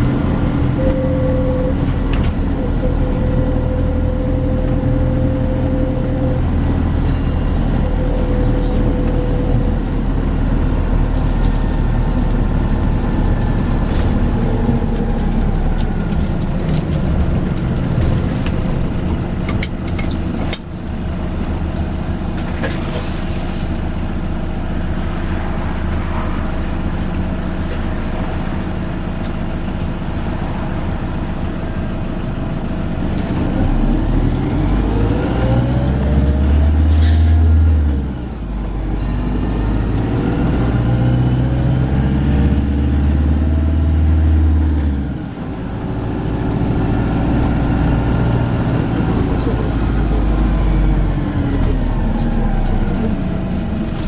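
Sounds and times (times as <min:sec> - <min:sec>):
bus engine whine: 0:00.0 - 0:54.0.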